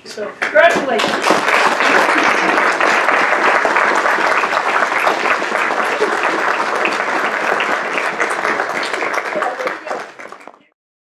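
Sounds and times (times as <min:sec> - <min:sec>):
crowd applauding: 0:00.6 - 0:10.8.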